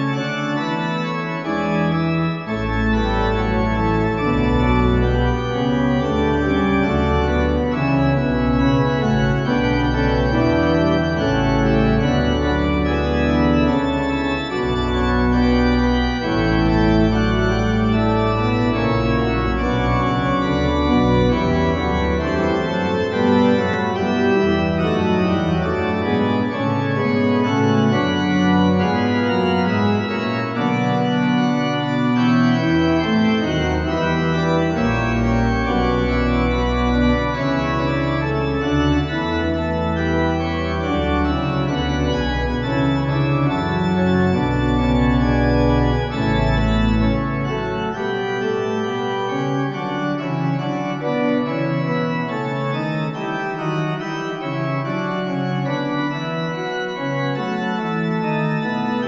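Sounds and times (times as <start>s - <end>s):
deep organ pedal bass: 0.0s - 59.0s
pipe organ chords: 0.0s - 59.0s.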